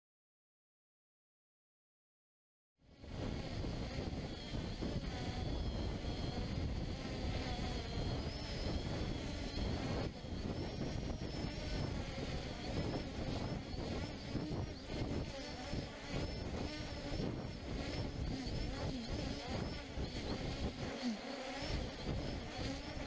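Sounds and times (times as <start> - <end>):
drone propellers buzzing: 2.8 - 23.0.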